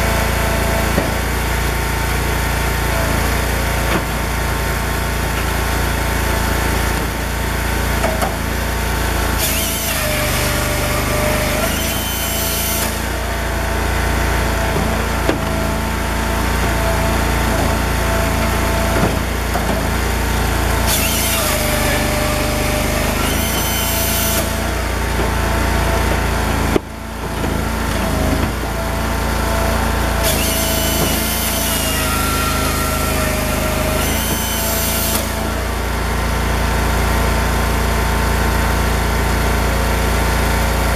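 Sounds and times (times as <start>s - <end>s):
firewood processor engine running: 0.0s - 40.9s.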